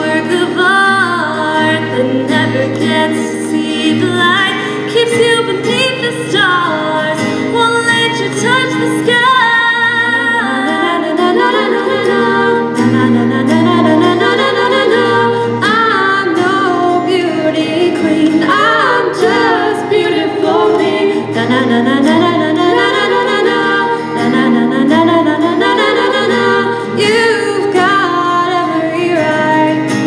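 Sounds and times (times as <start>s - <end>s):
women singing in harmony: 0.0s - 30.0s.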